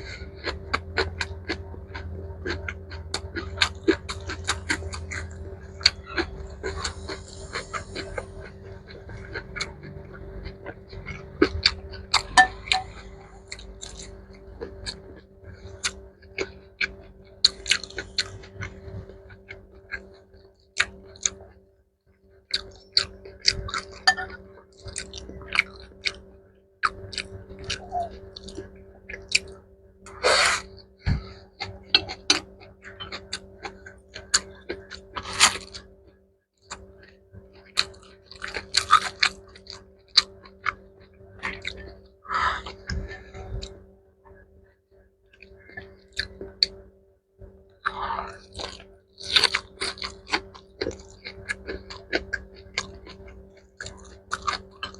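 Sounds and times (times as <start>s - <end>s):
crunchy chewing: 0.0s - 21.7s, 22.3s - 46.8s, 47.4s - 54.9s.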